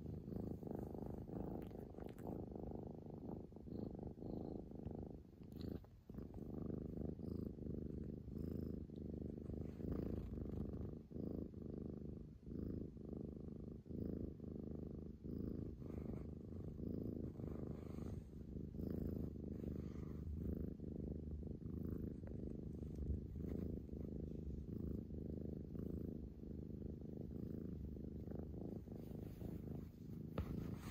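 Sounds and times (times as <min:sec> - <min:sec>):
cat purring: 0:00.0 - 0:30.9.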